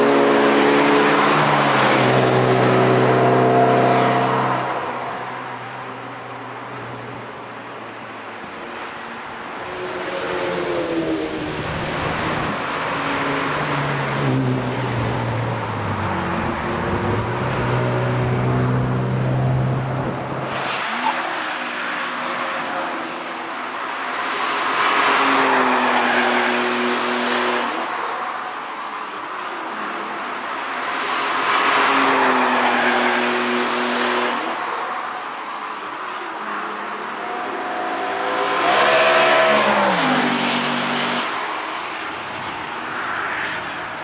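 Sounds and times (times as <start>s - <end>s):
race cars sweeping past: 0.0s - 5.8s, 8.7s - 28.9s, 29.8s - 35.6s, 36.4s - 44.0s.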